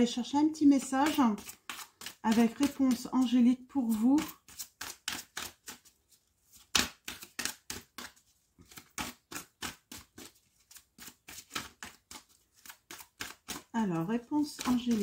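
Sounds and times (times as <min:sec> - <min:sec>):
cards being shuffled: 0:00.8 - 0:15.0.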